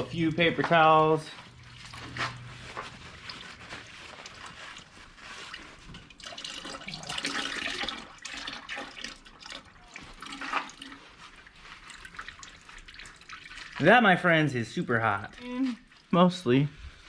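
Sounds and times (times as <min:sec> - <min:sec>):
oil pouring and dripping: 0:00.0 - 0:16.2.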